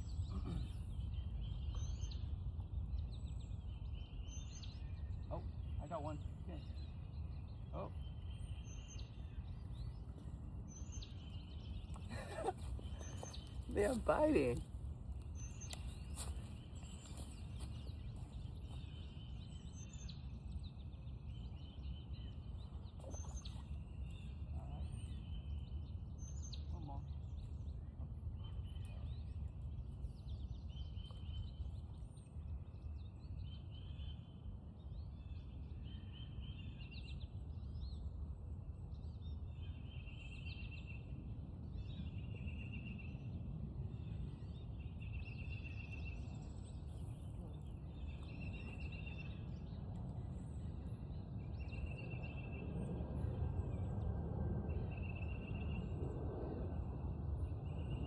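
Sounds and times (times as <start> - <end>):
steady low rumble: 0.0 - 36.2, 37.4 - 58.0.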